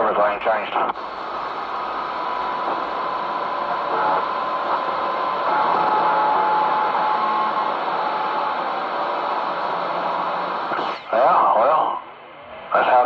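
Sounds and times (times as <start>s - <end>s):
radio static hiss: 0.0s - 12.1s, 12.7s - 13.0s.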